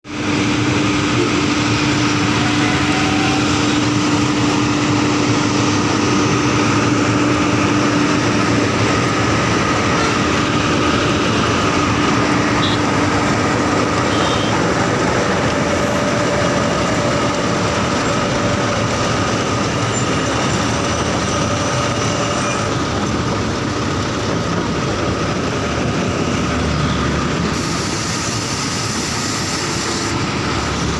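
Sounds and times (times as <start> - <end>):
road repair machine running: 0.0 - 30.9.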